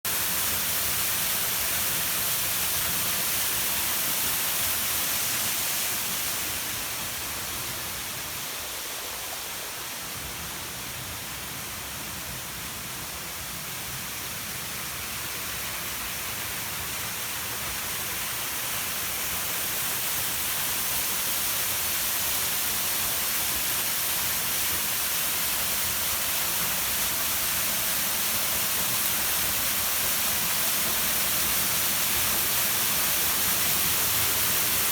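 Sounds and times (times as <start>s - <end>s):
waterfall splashing into pool: 0.1s - 34.9s.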